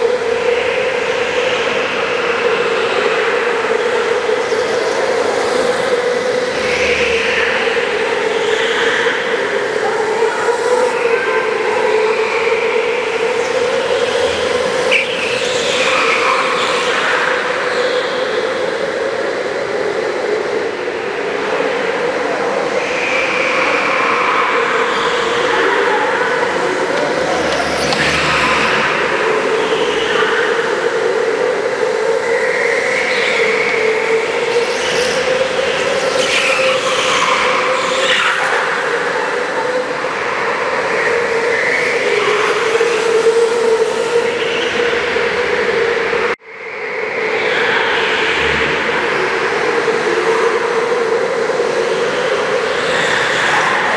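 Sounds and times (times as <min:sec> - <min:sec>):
go-kart engines droning: 0:00.0 - 0:53.9.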